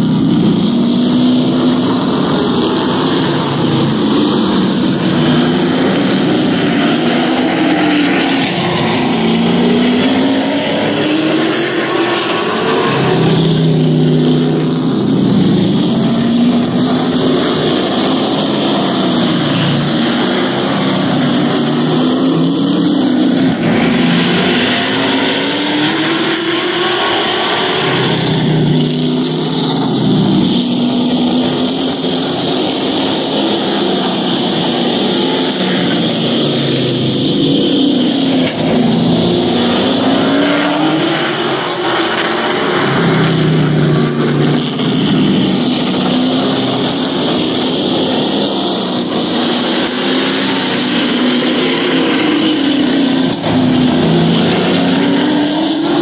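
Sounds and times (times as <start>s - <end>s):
race truck engines revving: 0.0s - 56.0s.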